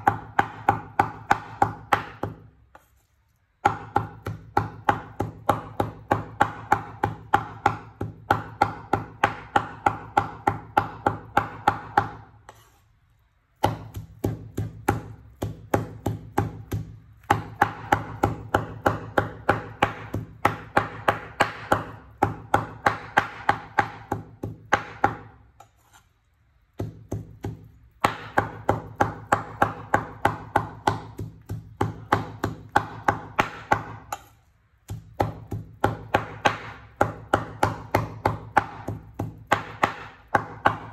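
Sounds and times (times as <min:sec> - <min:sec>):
cleaver chopping on wooden board: 0:00.0 - 0:02.5, 0:03.6 - 0:12.6, 0:13.6 - 0:25.4, 0:26.8 - 0:40.9.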